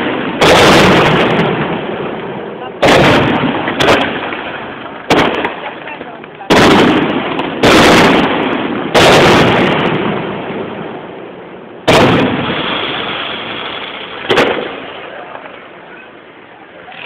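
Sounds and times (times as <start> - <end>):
firework shells bursting: 0.0 - 10.9, 11.8 - 15.8.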